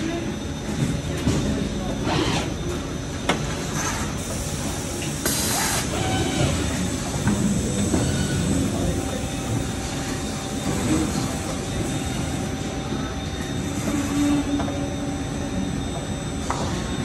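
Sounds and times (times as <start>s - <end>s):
machinery drone with high whines: 0.0s - 17.0s.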